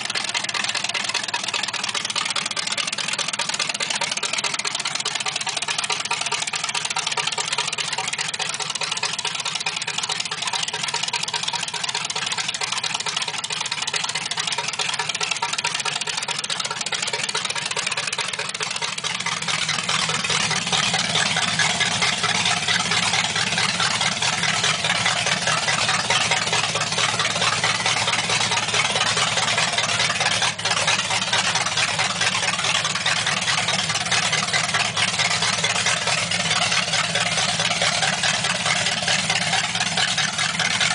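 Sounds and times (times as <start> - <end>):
vee eight engine idling: 0.0 - 40.9.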